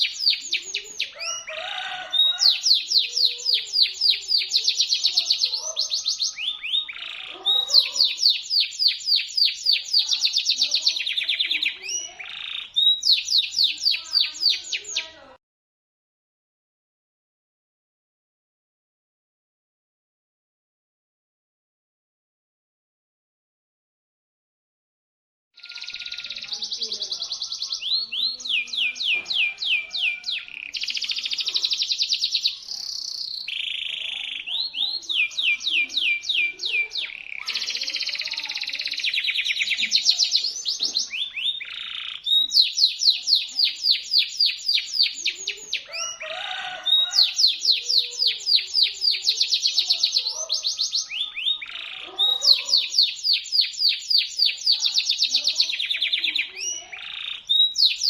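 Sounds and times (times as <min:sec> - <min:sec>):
canary singing rapid trills: 0:00.0 - 0:15.3, 0:25.6 - 0:58.0.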